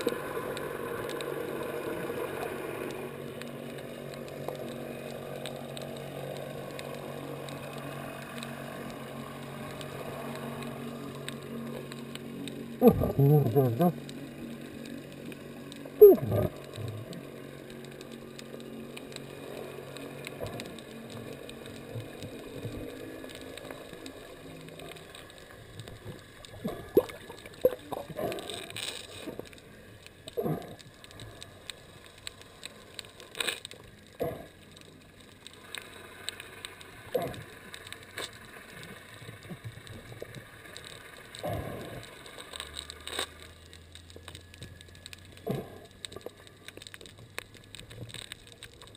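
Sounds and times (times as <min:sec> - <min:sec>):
low steady hum: 0:00.0 - 0:48.9
underwater water gurgles: 0:00.0 - 0:48.9.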